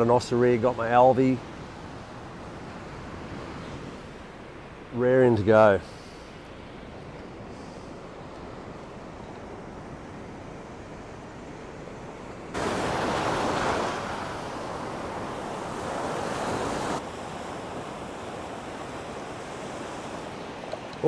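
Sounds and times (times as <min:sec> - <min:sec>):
ocean surf breaking on beach: 0:00.0 - 0:21.0.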